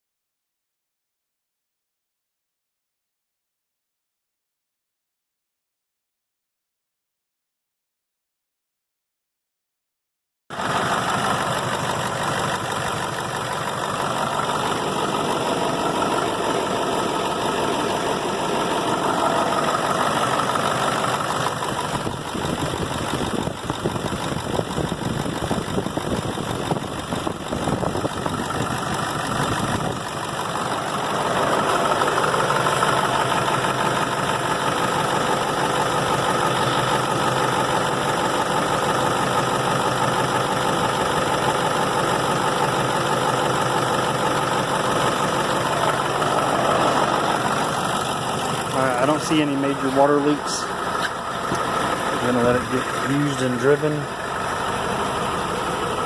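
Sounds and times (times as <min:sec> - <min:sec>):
diesel engine idling with knock: 0:10.5 - 0:56.0.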